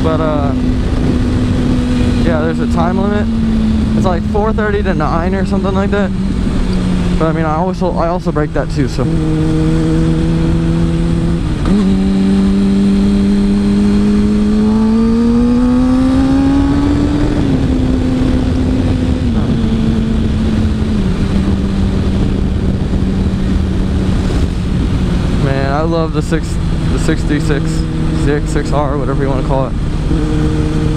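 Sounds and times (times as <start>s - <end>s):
motorcycle engine accelerating: 0.0s - 30.9s
wind noise: 0.0s - 30.9s.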